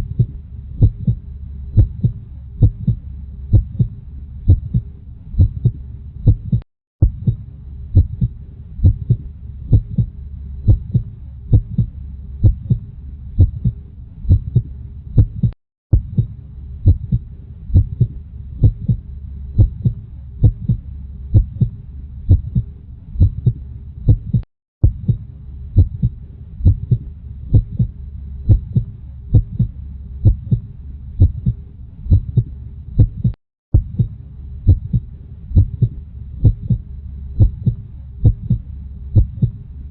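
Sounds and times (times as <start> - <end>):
heartbeat lub-dub thumps: 0.0 - 39.6
low hum: 0.0 - 39.9.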